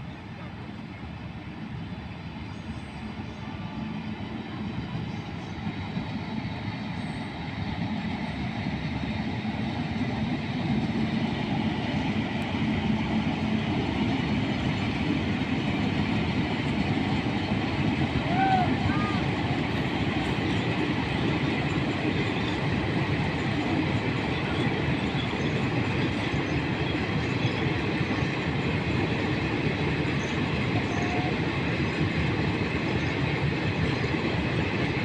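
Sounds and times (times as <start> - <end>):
train rumble and rail noise: 0.0 - 35.0.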